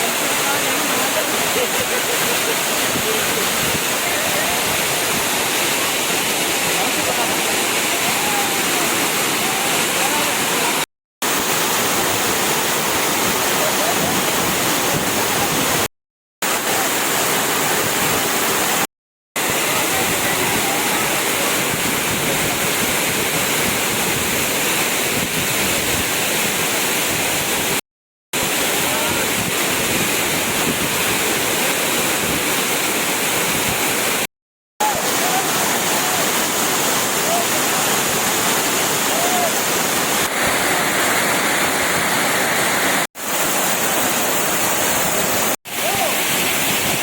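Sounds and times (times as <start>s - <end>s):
waterfall rushing: 0.0s - 27.8s, 28.4s - 47.0s.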